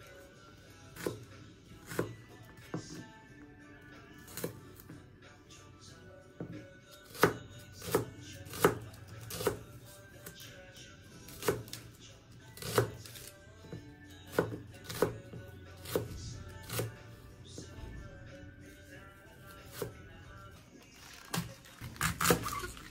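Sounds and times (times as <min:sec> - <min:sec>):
soft background music: 0:00.0 - 0:22.9.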